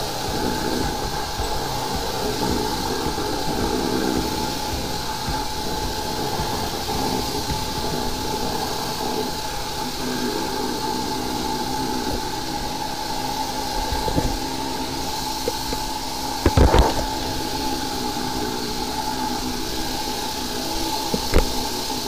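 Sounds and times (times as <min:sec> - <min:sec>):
sewer jetter engine and pump drone: 0:00.0 - 0:22.0.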